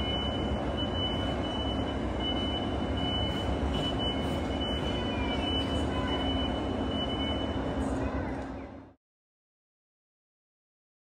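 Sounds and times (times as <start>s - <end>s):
low rumble of machinery: 0.0s - 9.0s.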